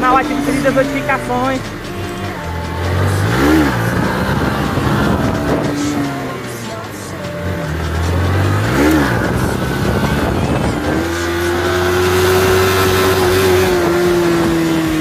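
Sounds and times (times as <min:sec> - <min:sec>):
wind noise: 0:00.0 - 0:06.5, 0:07.3 - 0:15.0
small motorcycle engine revving: 0:00.0 - 0:15.0.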